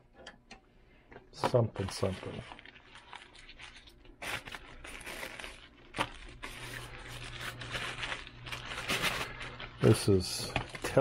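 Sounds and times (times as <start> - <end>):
plastic bag crinkling: 1.4 - 11.0.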